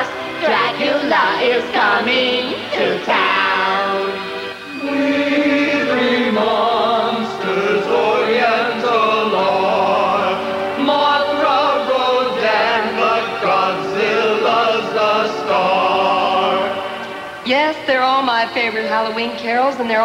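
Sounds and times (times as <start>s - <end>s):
choir singing: 0.0s - 17.4s
instrumental backing: 0.0s - 19.4s.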